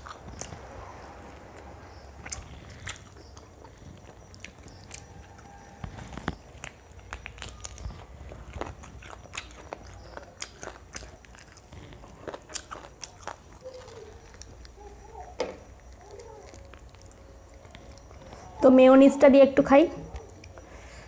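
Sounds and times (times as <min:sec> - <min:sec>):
chewing: 0:00.0 - 0:18.6, 0:20.0 - 0:21.0
crunching fried chicken: 0:00.0 - 0:18.6.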